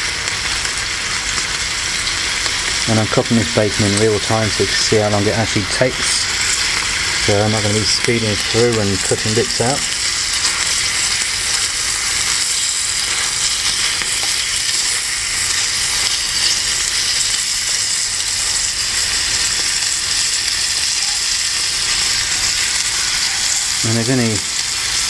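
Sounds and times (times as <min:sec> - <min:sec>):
bacon sizzling in a pan: 0:00.0 - 0:25.0.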